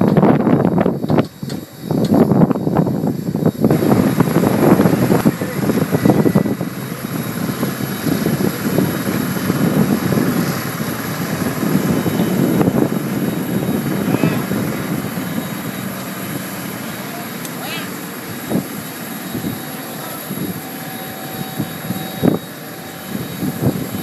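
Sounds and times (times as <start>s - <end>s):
faint steady whine: 0.0s - 24.0s
jet aircraft rushing noise: 0.0s - 24.0s.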